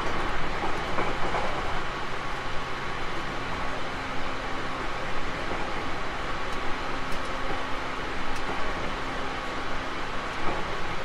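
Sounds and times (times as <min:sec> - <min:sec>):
electric train interior rumble: 0:00.0 - 0:11.0.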